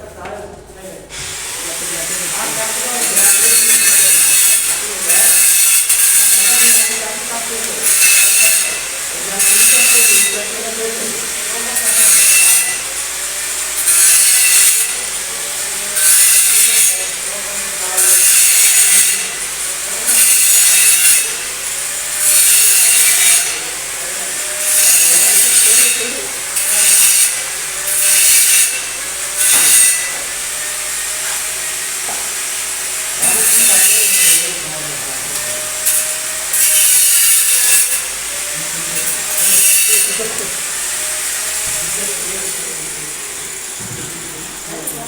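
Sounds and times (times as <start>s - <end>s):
welding arc hissing: 1.1s - 45.0s.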